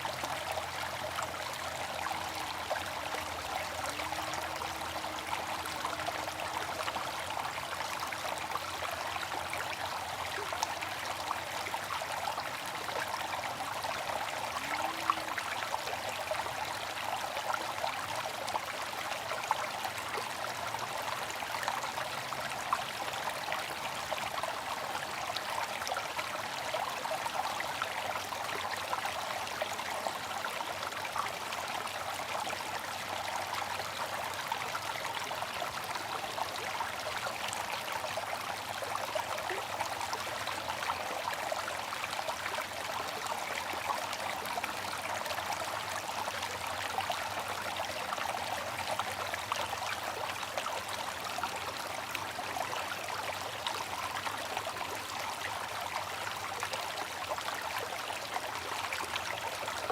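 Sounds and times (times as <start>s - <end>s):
water fountain trickling: 0.0s - 59.9s.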